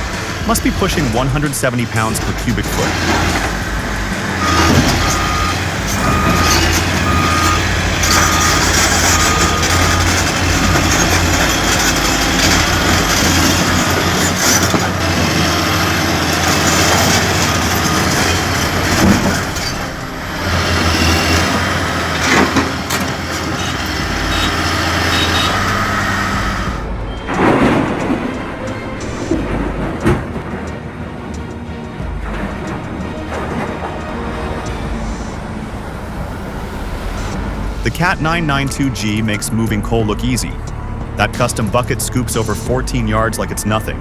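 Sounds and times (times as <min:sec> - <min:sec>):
reversing alarm beeping: 0:00.0 - 0:28.3, 0:34.6 - 0:41.7
heavy machine engine under load: 0:00.0 - 0:44.0.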